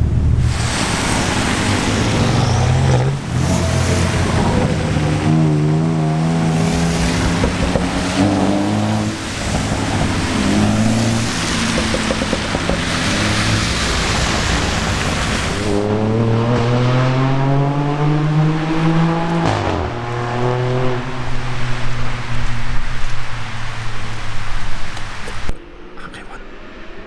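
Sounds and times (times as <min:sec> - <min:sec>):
loud rushing noise: 0:00.0 - 0:25.6
car engine accelerating: 0:00.0 - 0:27.0.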